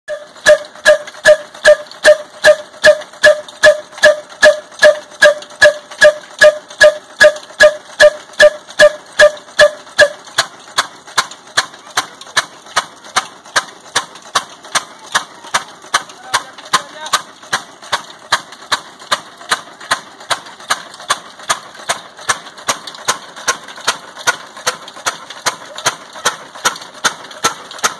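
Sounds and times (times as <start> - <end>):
diesel engine knocking: 0.1 - 27.9.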